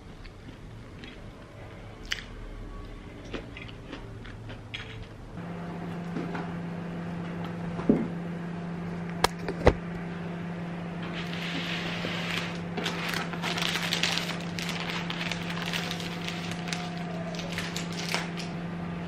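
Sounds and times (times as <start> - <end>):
electric appliance hum: 2.8 - 19.0.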